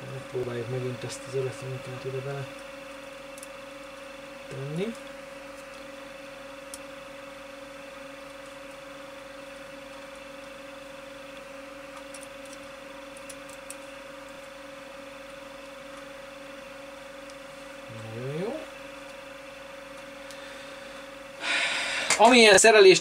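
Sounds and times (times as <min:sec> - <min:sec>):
electrical hum with whine: 0:00.0 - 0:23.0.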